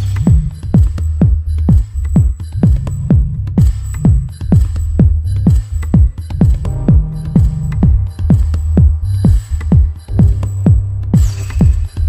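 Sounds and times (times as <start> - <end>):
four-on-the-floor kick drum: 0.0 - 12.0
high ticking percussion: 0.0 - 12.0
sustained bass line: 0.0 - 12.0.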